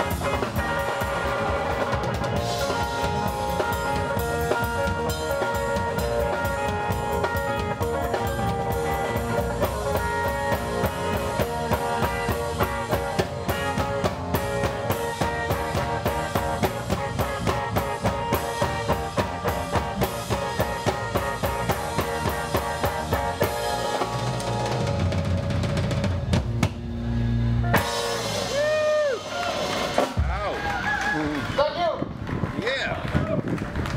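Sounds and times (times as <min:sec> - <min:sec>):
drum kit beat: 0:00.0 - 0:31.0
electric guitars: 0:00.0 - 0:31.5
rock band playing: 0:00.0 - 0:31.9.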